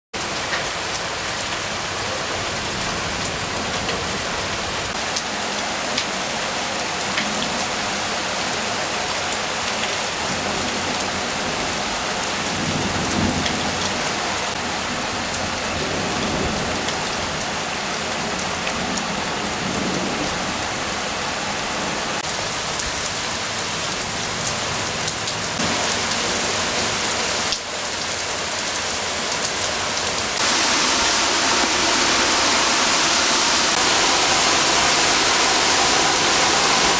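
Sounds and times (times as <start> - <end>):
heavy rain falling: 0.2 - 36.9.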